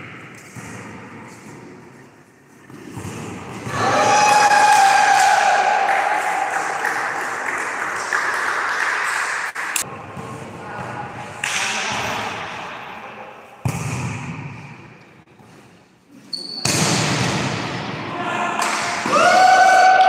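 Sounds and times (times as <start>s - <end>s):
players' voices echoing in gym: 0.0s - 20.0s.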